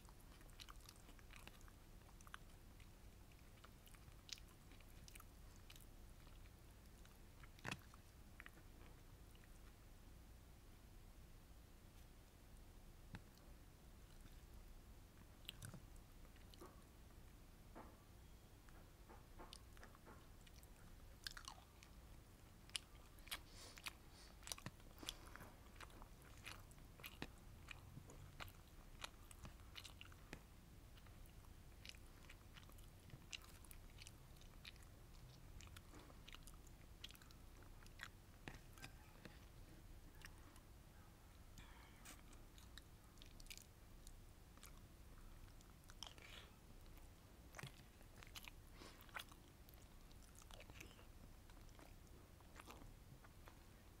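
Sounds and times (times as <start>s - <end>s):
close-miked chewing: 0.0s - 10.0s, 13.1s - 17.9s, 18.7s - 54.0s.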